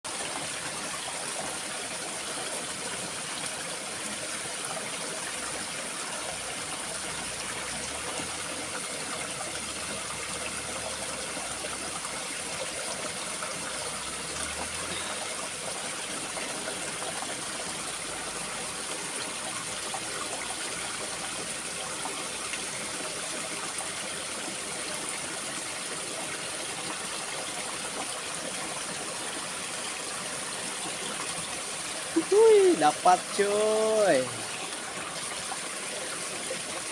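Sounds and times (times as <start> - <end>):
stream water running: 0.0 - 36.9.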